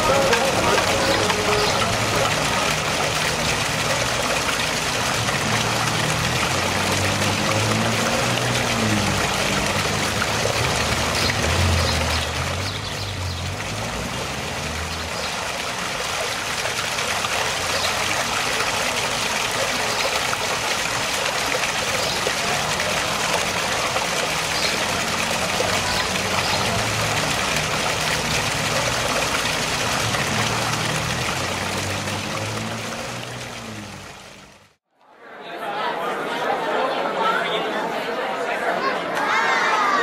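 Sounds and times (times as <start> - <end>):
fountain water splashing: 0.0 - 34.8.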